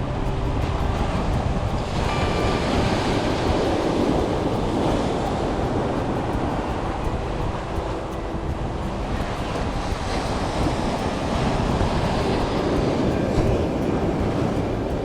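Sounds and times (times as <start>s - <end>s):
sea surf washing ashore: 0.0s - 15.0s
wind rumbling on microphone: 0.0s - 15.0s.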